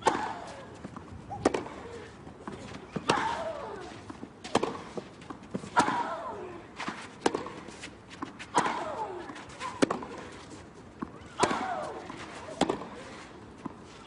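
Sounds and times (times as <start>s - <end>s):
tennis ball bouncing: 0.0s - 6.1s, 6.8s - 10.4s, 11.0s - 13.0s
racket hitting tennis ball: 0.0s - 13.8s.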